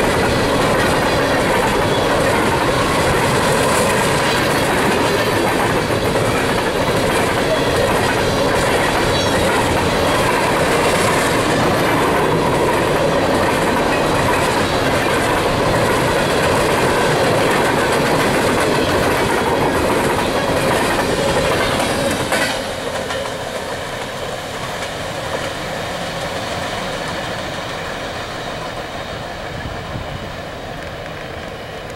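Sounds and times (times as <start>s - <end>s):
train wheels rolling on rail: 0.0s - 31.9s.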